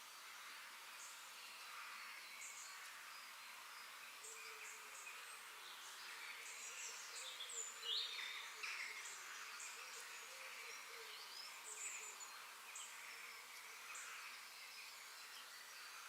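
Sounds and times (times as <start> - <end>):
insects: 0.0 - 16.0
steady background hiss: 0.0 - 16.0.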